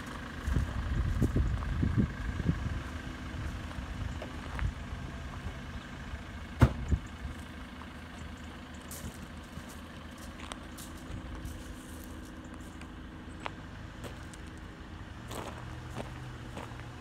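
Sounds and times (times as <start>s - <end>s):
minibus engine idling: 0.0s - 17.0s.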